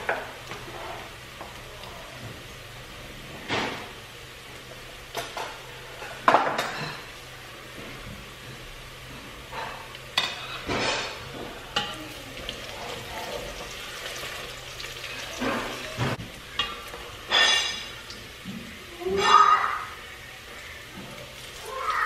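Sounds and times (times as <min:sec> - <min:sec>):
onions sizzling: 0:00.0 - 0:22.0.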